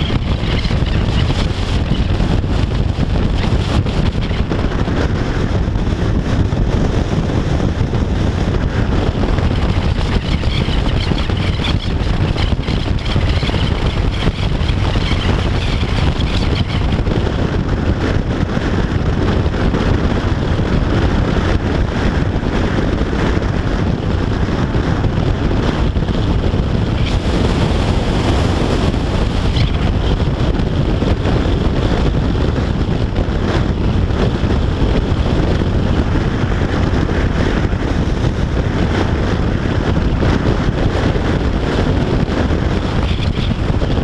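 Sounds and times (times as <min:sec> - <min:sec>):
motorcycle engine cruising: 0:00.0 - 0:44.0
wind rush on microphone: 0:00.0 - 0:44.0.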